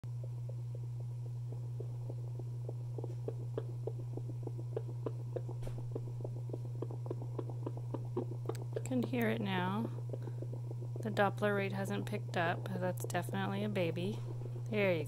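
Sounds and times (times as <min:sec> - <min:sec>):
doppler low hum: 0:00.1 - 0:15.0
fast pulsing heartbeat: 0:00.1 - 0:15.0.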